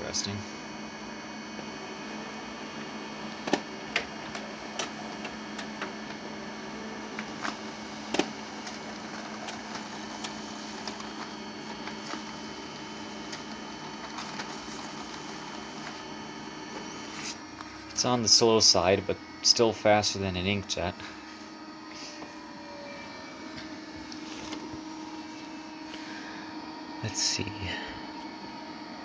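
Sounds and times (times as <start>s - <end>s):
printer whirring: 0.0s - 29.0s.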